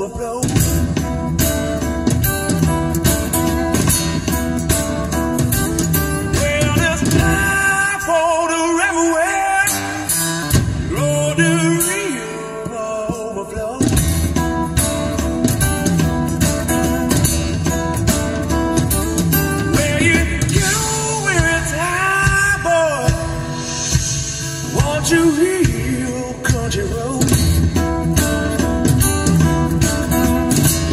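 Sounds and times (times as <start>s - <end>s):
man singing: 0.0s - 1.8s, 4.7s - 30.9s
acoustic guitar bass and drums: 0.0s - 30.9s.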